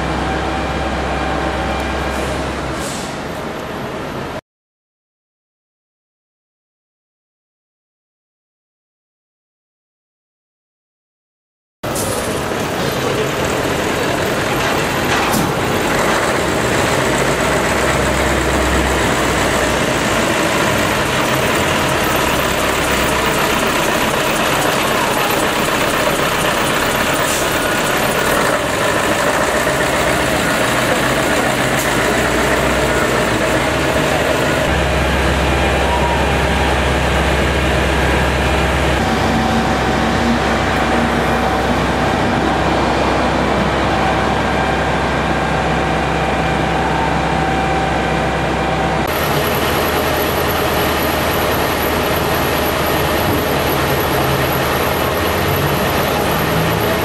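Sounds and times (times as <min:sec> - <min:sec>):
diesel fire truck engines idling: 0:00.0 - 0:04.4, 0:11.9 - 0:57.0
street noise: 0:00.0 - 0:04.4, 0:11.8 - 0:57.0.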